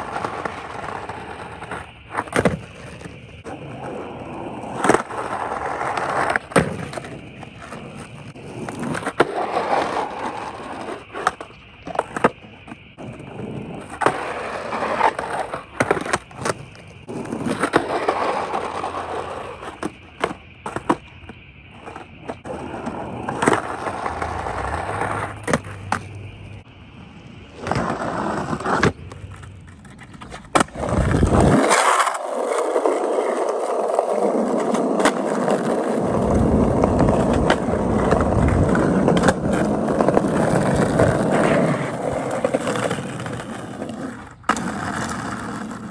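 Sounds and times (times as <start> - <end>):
skateboard tail pops: 0.0 - 26.6, 27.5 - 33.4, 34.3 - 45.9
skateboard landings: 0.0 - 45.9
skateboard trucks grinding curb: 0.0 - 45.9
skateboard wheels rolling on asphalt: 0.0 - 45.9.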